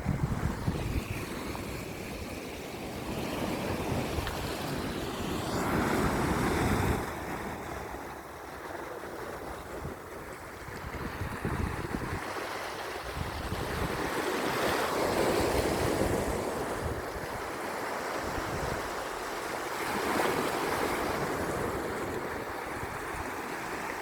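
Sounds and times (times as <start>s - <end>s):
sea waves washing on shore: 0.0s - 24.0s.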